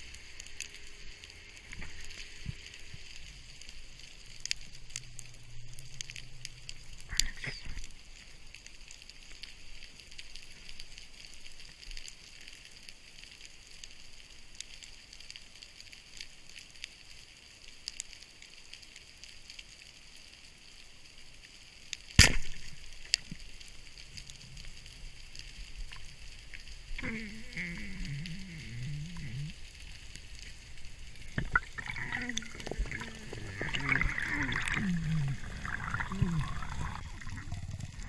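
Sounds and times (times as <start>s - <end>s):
underwater crackle of clicks: 0.0s - 38.0s.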